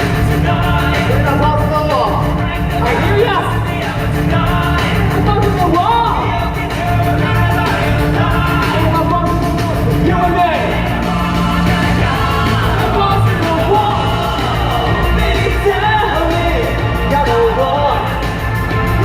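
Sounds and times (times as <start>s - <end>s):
person singing: 0.0s - 18.3s
loud band playing: 0.0s - 19.0s.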